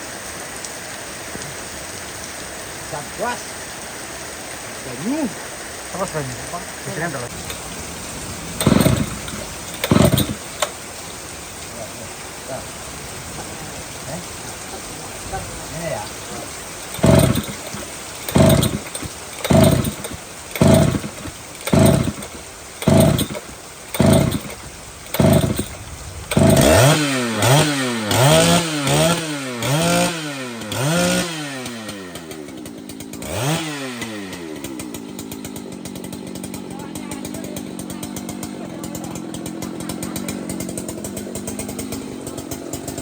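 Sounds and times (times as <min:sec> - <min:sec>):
chainsaw revving: 0:05.9 - 0:12.0, 0:12.9 - 0:43.0.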